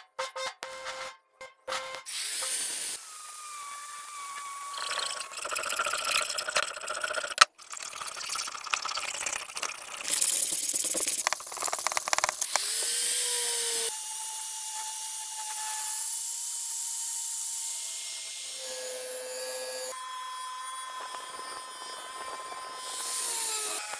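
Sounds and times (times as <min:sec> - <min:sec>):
angle grinder whining: 0:02.0 - 0:23.9.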